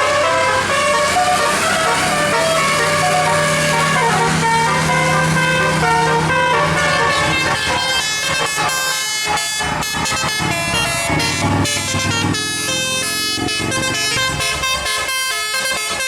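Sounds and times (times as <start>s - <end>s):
bus engine hum: 0.0s - 16.0s
musical air horn tune: 0.0s - 16.0s.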